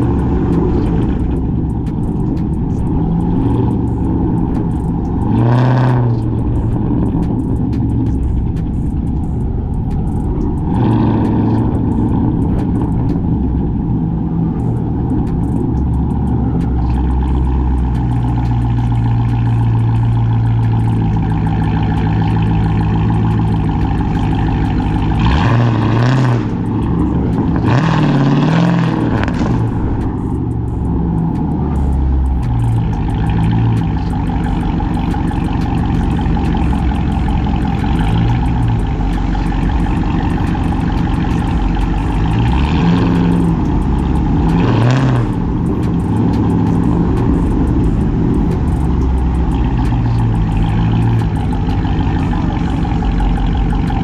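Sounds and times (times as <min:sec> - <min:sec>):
car exhaust rumbling: 0:00.0 - 0:54.0.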